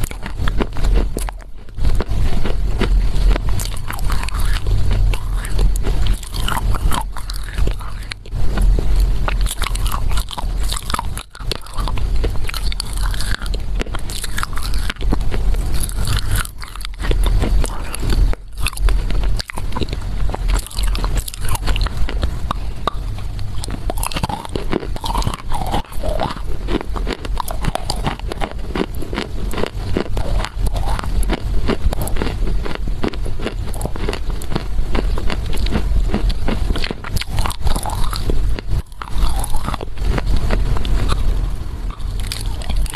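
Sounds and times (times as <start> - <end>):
crunching clay chewing: 0.0 - 42.9
low hum: 0.0 - 42.9.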